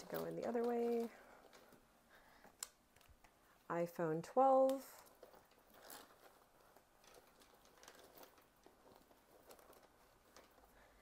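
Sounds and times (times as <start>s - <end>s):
soft rustling: 0.0s - 11.0s.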